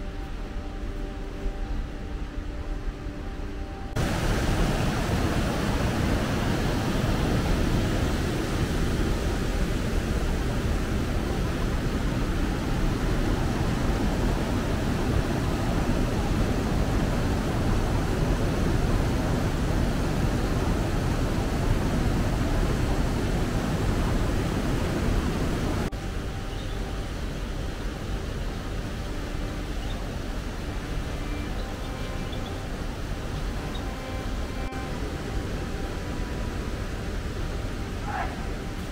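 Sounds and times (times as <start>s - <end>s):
faint steady tones: 0.0s - 38.9s
stream rushing over rocks: 3.9s - 38.9s.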